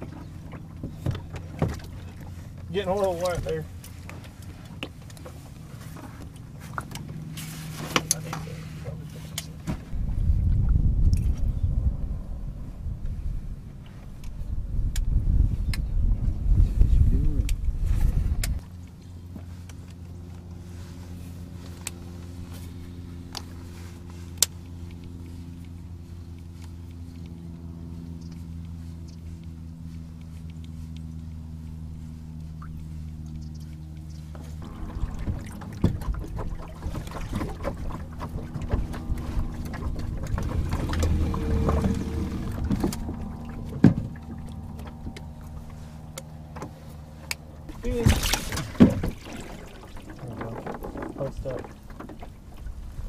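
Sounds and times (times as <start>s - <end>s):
boat motor humming: 0.0s - 53.0s.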